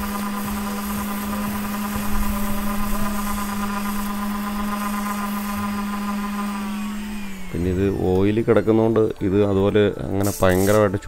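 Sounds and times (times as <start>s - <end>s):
electric sander humming: 0.0s - 10.9s
sanding disc grinding rotor: 0.0s - 11.0s.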